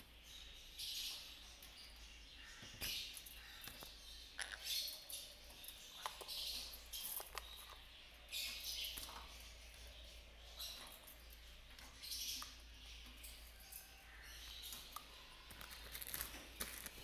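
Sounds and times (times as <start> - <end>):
parrots chirping and squeaking: 2.5 - 9.9, 10.5 - 17.0.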